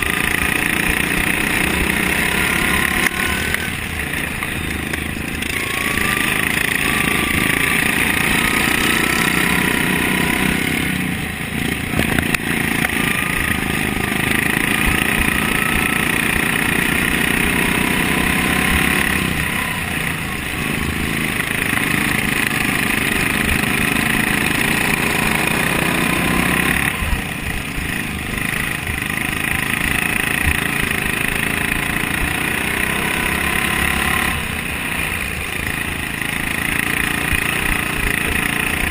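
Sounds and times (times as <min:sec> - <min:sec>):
lawn mower engine running hard: 0:00.0 - 0:38.9.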